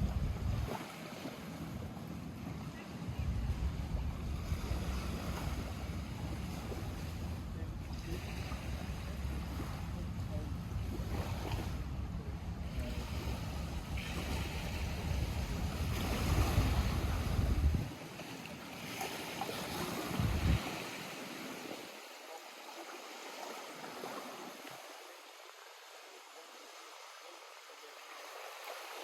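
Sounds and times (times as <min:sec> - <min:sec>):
lake water lapping at shore: 0:00.0 - 0:29.0.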